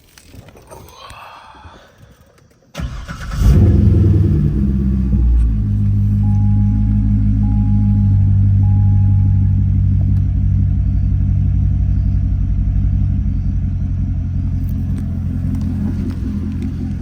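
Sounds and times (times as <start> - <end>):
car engine idling: 2.8 - 17.0.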